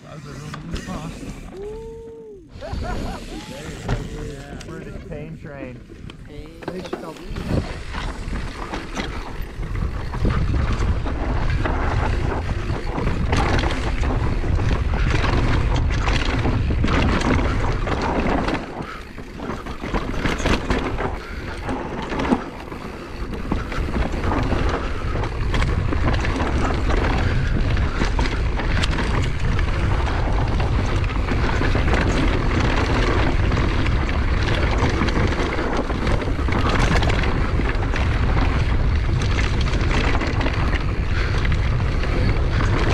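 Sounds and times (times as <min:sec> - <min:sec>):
mountain bike rattle and rumble: 0:00.0 - 0:42.9
wind buffeting microphone: 0:00.3 - 0:42.9.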